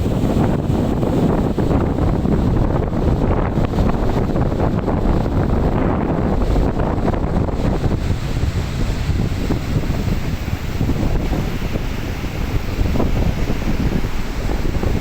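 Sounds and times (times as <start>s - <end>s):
strong wind buffeting microphone: 0.0s - 15.0s
surf washing in: 0.0s - 15.0s.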